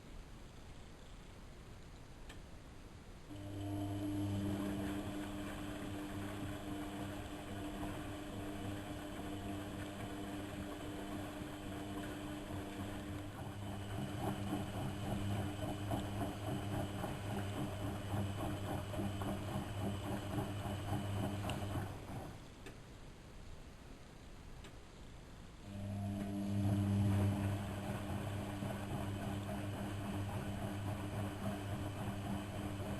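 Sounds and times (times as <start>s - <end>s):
washing machine humming: 3.3s - 22.6s, 25.6s - 32.9s.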